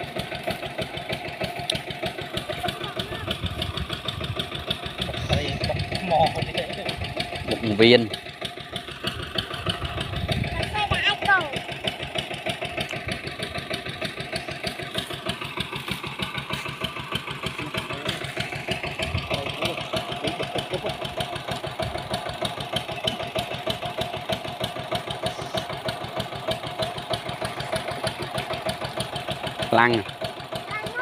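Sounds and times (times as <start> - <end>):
small engine idling: 0.0 - 31.0.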